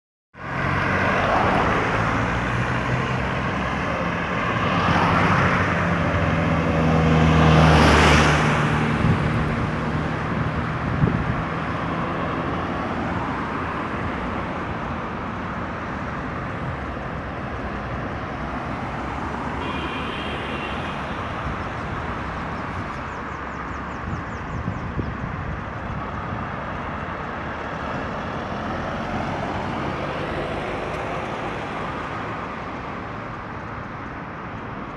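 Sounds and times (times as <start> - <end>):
highway traffic passing: 0.4 - 34.9.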